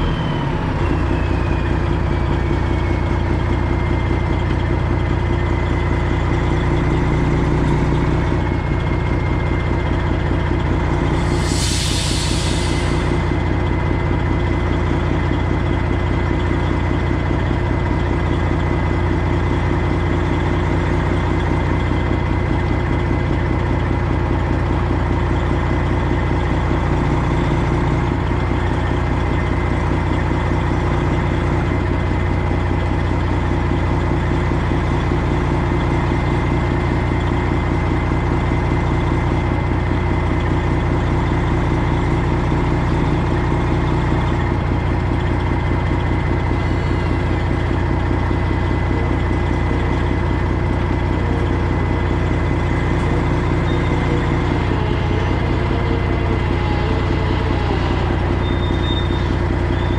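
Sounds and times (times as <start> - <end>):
diesel truck engine droning: 0.0 - 59.9.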